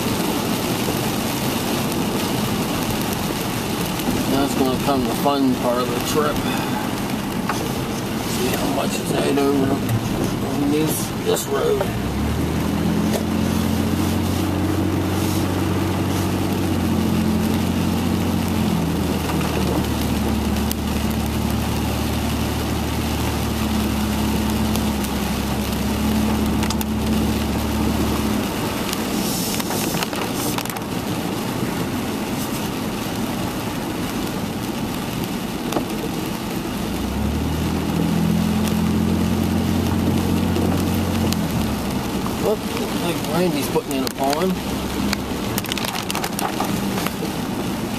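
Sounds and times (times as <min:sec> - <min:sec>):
car engine hum: 0:00.0 - 0:47.9
rain on windshield: 0:00.0 - 0:47.9
tyre hiss on wet road: 0:00.0 - 0:47.9.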